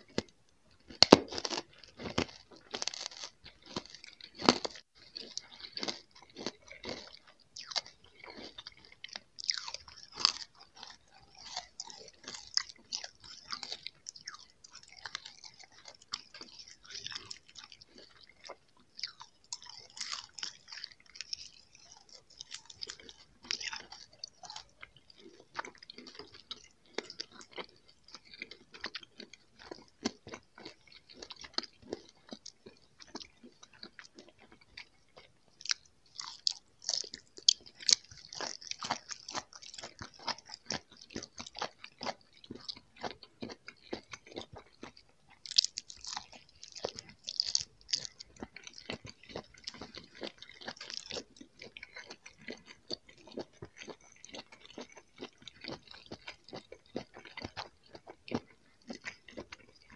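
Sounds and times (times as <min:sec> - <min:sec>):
chewing jelly candies: 0:00.0 - 0:59.9.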